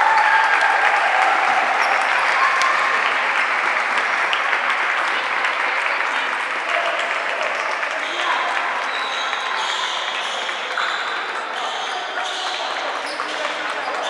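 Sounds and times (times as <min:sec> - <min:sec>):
spectators clapping: 0:00.0 - 0:14.0.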